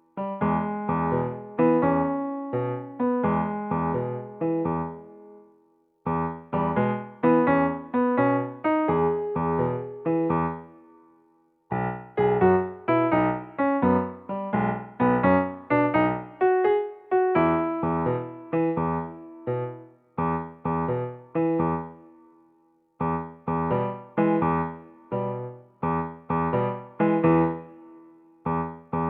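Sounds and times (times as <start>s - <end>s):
electric piano tune: 0.0s - 5.4s, 6.0s - 10.8s, 11.7s - 22.1s, 23.0s - 29.0s.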